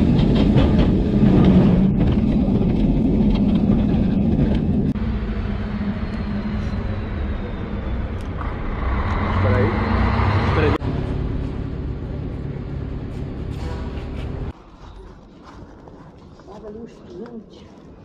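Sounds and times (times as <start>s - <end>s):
tram rolling rumble: 0.0s - 18.0s.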